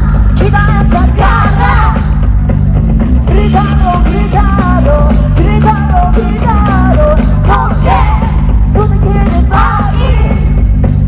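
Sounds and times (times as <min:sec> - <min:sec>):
women's group vocals singing: 0:00.0 - 0:02.2, 0:03.3 - 0:10.5
pop-rock backing track with heavy bass: 0:00.0 - 0:11.0.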